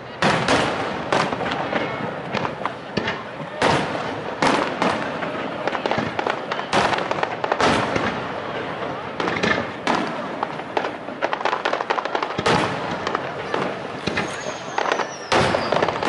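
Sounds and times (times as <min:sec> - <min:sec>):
crackle of small fireworks bursts: 0:00.0 - 0:16.0
fireworks booming: 0:00.0 - 0:16.0.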